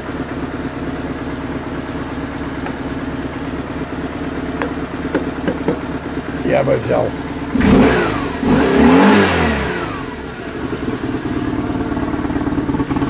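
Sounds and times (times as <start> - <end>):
motorcycle engine idling: 0.0 - 13.0
motorcycle engine revving: 0.1 - 13.0.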